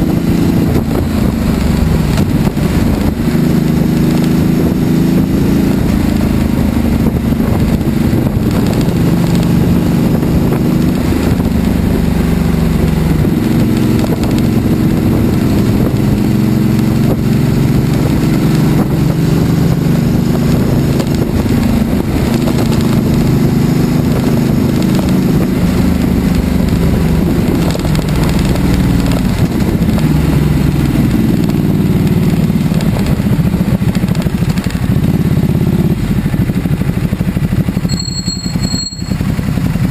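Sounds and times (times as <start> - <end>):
wind noise rushing: 0.0 - 37.3
motorcycle engine running: 0.0 - 39.9.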